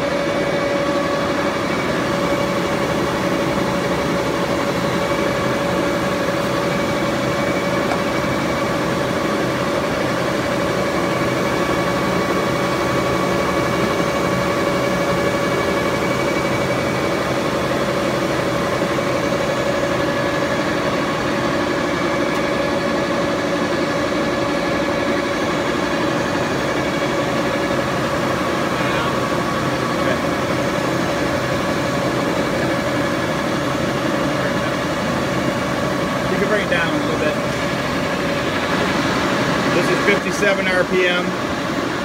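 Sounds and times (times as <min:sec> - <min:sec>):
lathe machine hum and whine: 0:00.0 - 0:42.0.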